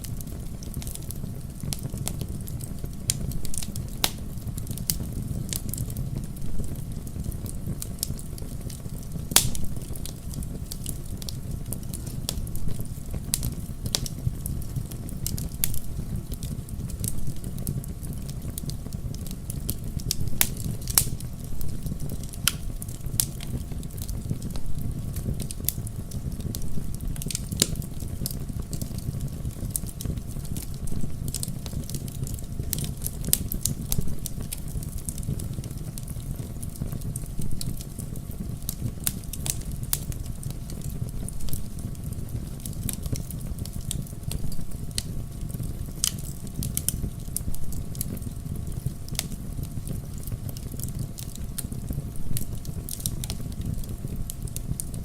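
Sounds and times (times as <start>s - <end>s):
logs popping and crackling: 0.0s - 55.0s
low rumble of flames: 0.0s - 55.0s.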